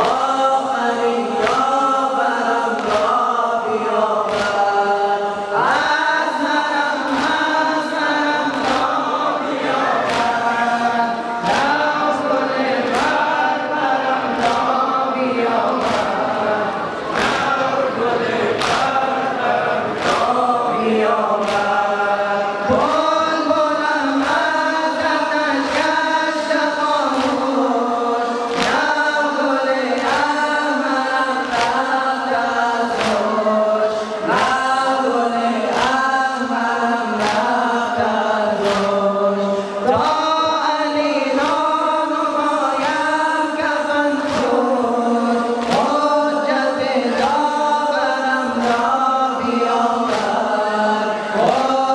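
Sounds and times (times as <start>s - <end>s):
men singing a mourning lament: 0.0s - 51.9s
people beating their chests: 0.0s - 51.9s.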